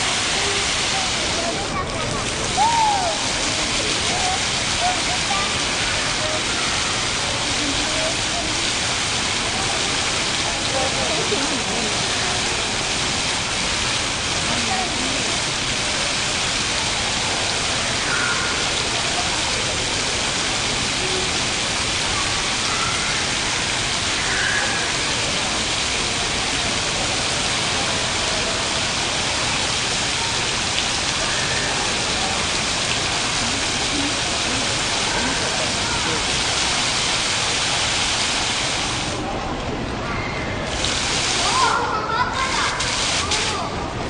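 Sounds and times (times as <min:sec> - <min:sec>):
fountain water splashing: 0:00.0 - 0:44.0.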